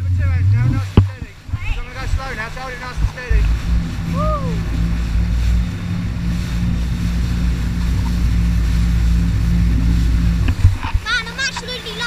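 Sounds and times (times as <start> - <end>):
jet ski engine drone: 0.0 - 12.0
water rushing: 0.0 - 12.0
wind: 0.0 - 12.0.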